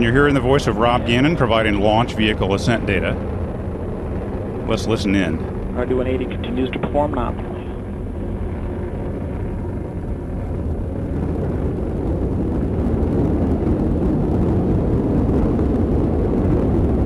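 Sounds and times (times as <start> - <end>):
rocket engine roaring: 0.0 - 17.0.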